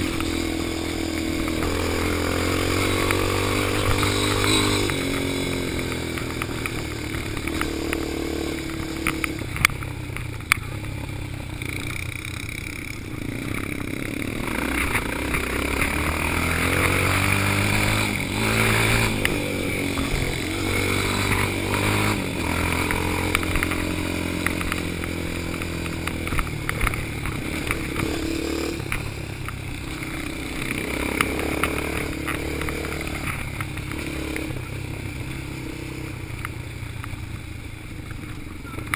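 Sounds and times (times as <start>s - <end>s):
quad engine revving: 0.0s - 9.8s, 10.7s - 36.2s
knocks and rattles of quad: 0.0s - 38.9s.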